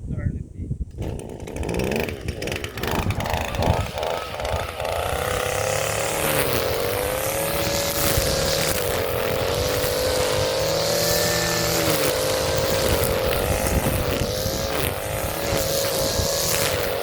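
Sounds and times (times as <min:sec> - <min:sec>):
string trimmer engine revving: 0:00.9 - 0:17.0.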